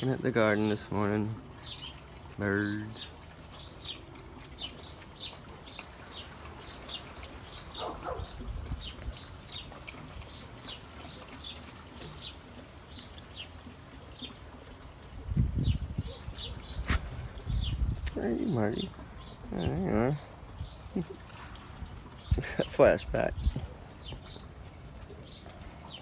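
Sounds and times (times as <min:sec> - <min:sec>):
birds chirping: 0:00.0 - 0:14.6, 0:15.4 - 0:26.0.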